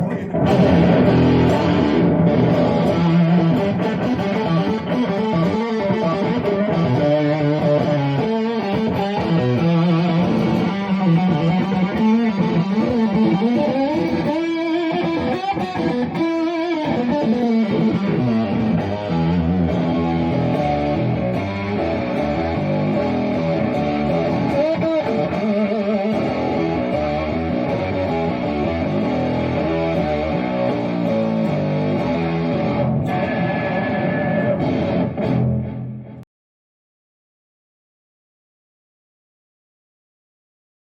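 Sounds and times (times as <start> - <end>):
electric guitar rock riffing: 0.0 - 36.2.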